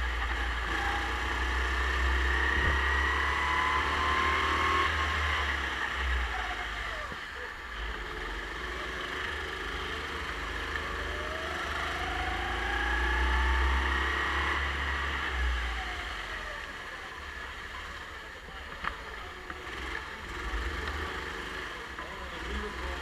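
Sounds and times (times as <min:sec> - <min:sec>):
go-kart engine accelerating: 0:00.0 - 0:23.0.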